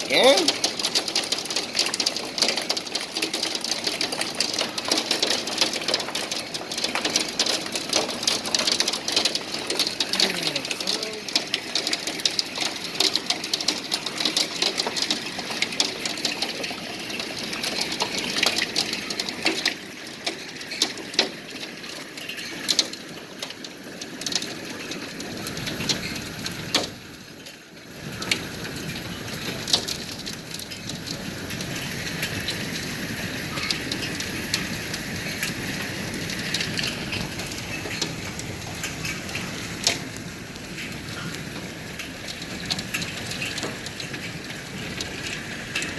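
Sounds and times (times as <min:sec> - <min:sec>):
hailstones clicking on hard surfaces: 0:00.0 - 0:45.9
rain-like hiss: 0:00.0 - 0:45.9.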